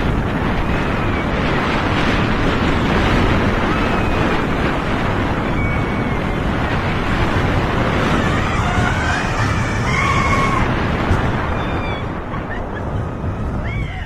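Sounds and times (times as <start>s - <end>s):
roller coaster rumble: 0.0s - 14.0s
wind on microphone: 0.0s - 14.0s.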